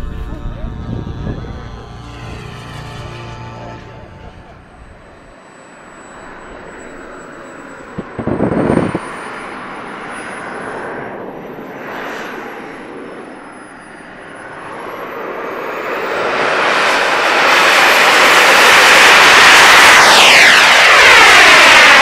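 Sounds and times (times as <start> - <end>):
steady rushing noise: 0.0 - 13.8, 15.5 - 22.0
jet turbine engine whine: 0.0 - 22.0.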